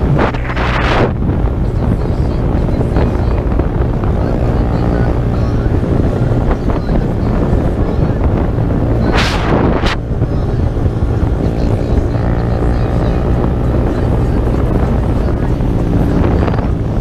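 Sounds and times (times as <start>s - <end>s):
minibike engine running: 0.0s - 17.0s
wind buffeting microphone: 0.0s - 17.0s.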